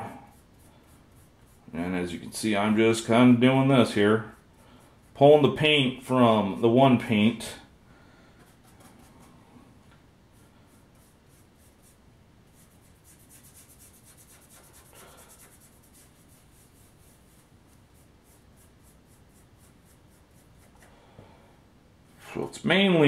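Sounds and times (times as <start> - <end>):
dry paintbrush scratching: 0.0 - 7.2, 8.4 - 9.4, 10.3 - 20.9.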